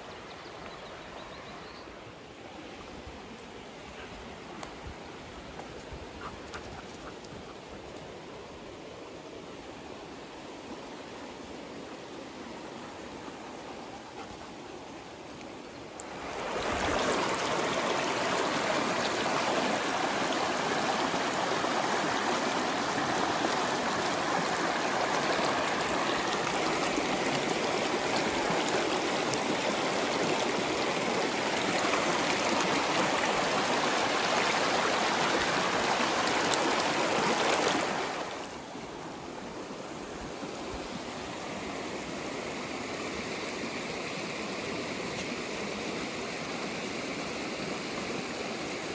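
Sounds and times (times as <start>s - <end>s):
stream running over rocks: 0.0s - 48.9s.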